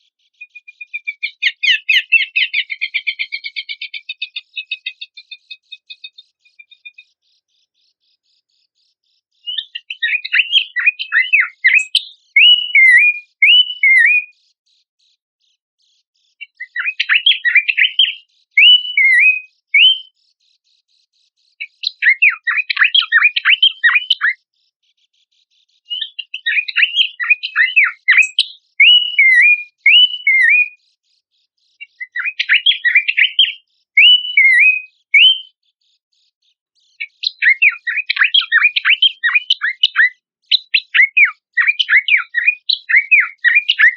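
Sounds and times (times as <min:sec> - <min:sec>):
babbler bird song: 0:00.0 - 0:43.9.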